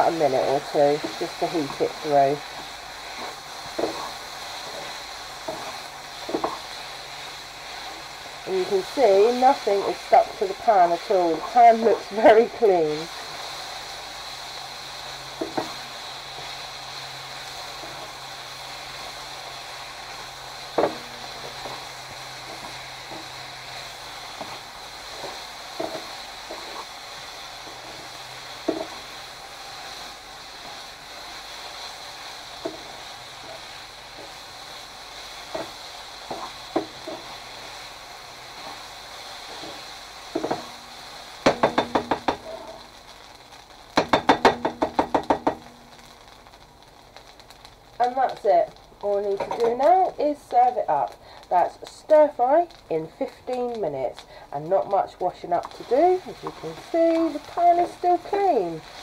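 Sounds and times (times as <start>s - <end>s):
stir fry sizzling in pan: 0.0s - 59.0s.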